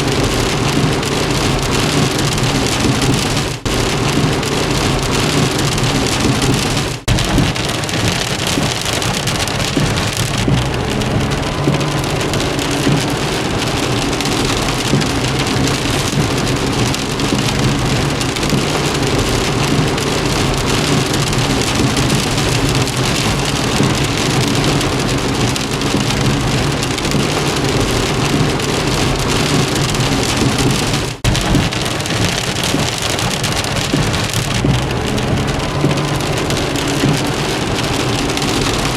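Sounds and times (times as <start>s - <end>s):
low steady rumble: 0.0s - 32.9s, 33.5s - 38.9s
rain falling on a car: 0.0s - 38.9s.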